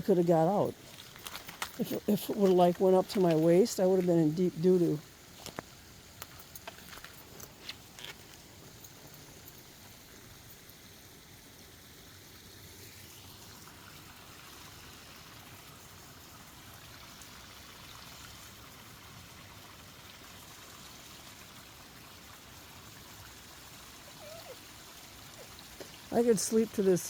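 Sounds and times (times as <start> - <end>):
creek water trickling: 0.0 - 27.0.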